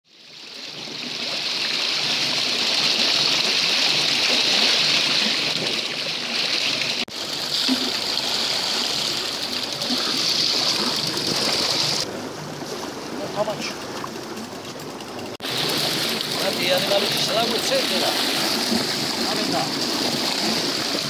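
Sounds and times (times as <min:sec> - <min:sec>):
sea water rushing along a hull: 0:00.5 - 0:21.0.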